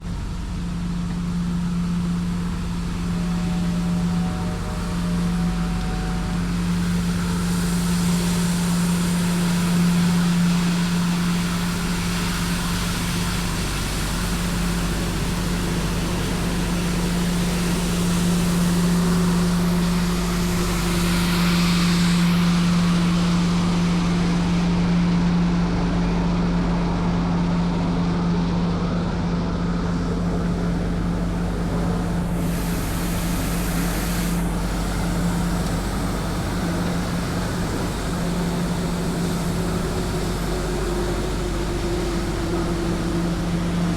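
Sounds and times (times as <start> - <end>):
street sweeper humming and hissing: 0.0 - 43.9.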